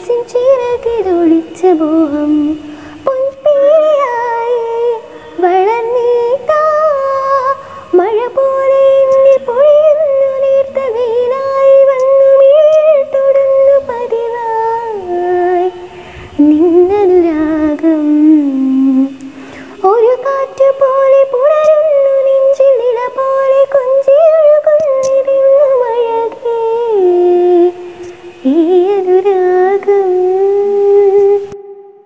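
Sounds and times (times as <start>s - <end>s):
woman humming a slow melody: 0.0s - 32.0s.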